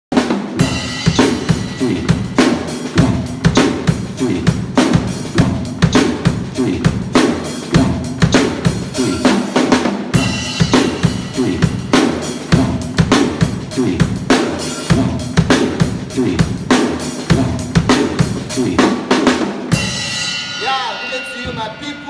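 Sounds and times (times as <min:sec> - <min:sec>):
drum kit groove: 0:00.1 - 0:22.0.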